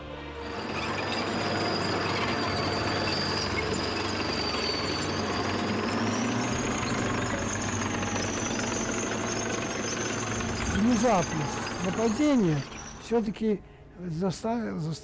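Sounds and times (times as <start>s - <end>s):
high-pitched whine: 0.0s - 13.6s
tracked vehicle engine and tracks: 0.0s - 15.0s.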